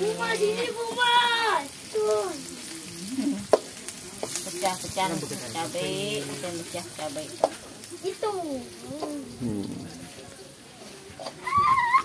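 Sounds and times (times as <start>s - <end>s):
aromatics sizzling in hot oil: 0.0s - 12.0s.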